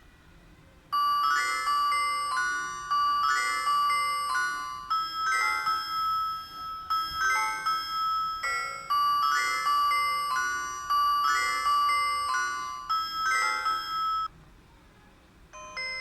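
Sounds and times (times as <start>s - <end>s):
bell-like phone ringtone: 1.0s - 14.3s, 15.6s - 16.0s.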